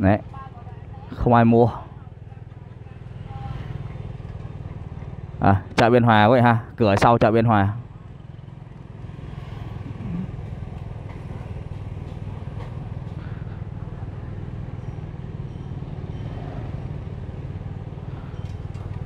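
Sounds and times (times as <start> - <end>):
faint street noise: 0.0 - 19.0
motorbike engine rumbling: 0.0 - 19.0.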